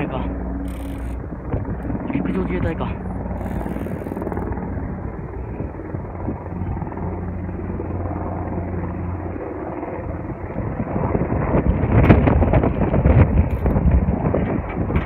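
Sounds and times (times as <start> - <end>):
helicopter passing overhead: 0.0 - 15.0.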